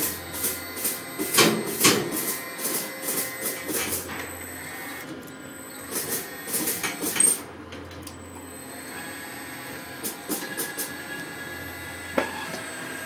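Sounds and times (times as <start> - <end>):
electric motors whirring: 0.0 - 13.0.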